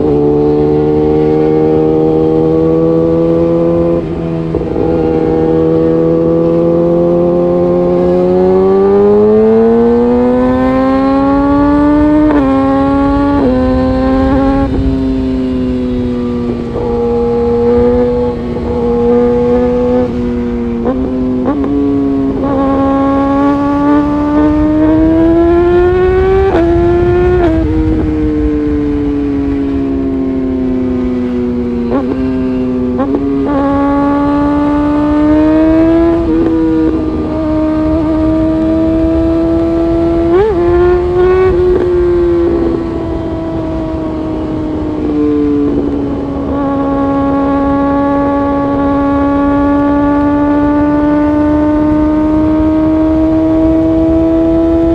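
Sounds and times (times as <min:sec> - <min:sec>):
motorcycle engine shifting gears: 0:00.0 - 0:54.9.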